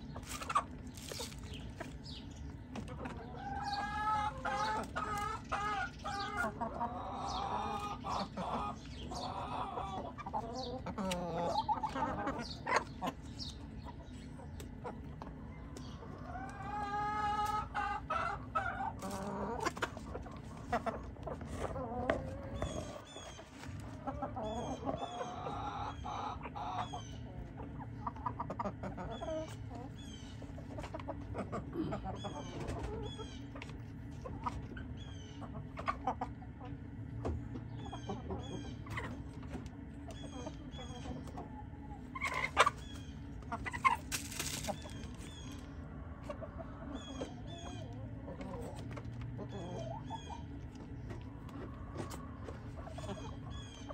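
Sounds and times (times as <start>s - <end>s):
chickens clucking and calling: 0.0s - 53.9s.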